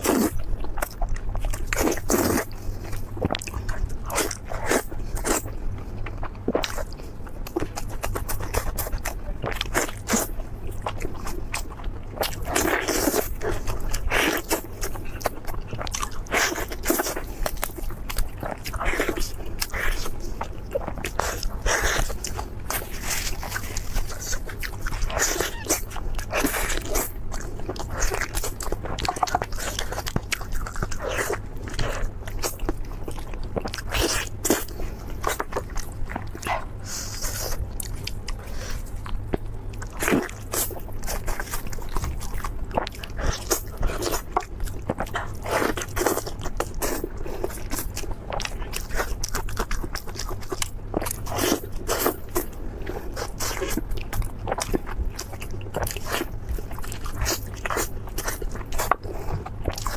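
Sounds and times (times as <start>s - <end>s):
crunchy chewing of fried food: 0.0s - 59.9s.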